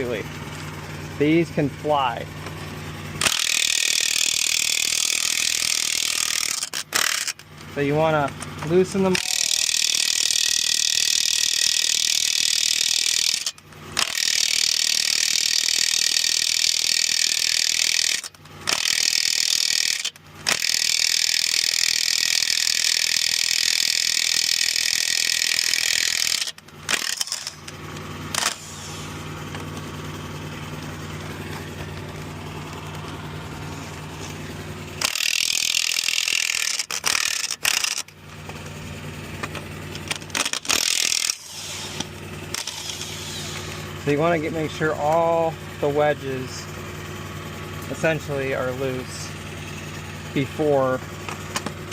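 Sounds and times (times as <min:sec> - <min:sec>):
steady low hum: 0:00.0 - 0:22.4, 0:25.3 - 0:51.9
impact wrench running: 0:00.0 - 0:51.9.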